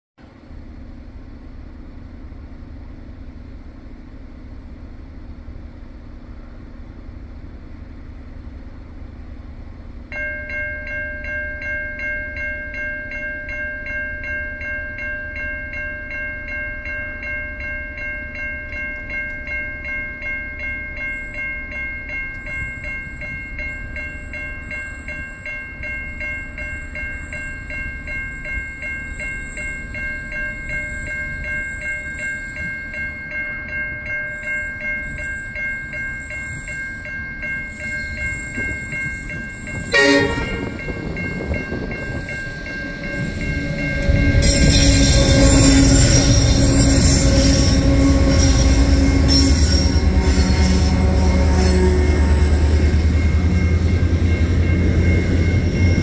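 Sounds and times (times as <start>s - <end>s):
freight train rumble: 0.2s - 56.0s
level crossing warning bells: 8.0s - 56.0s.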